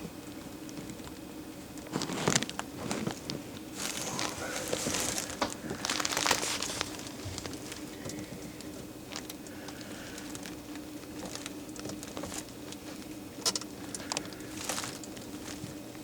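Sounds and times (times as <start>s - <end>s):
rustling and crinkling handling noise: 0.2s - 16.0s.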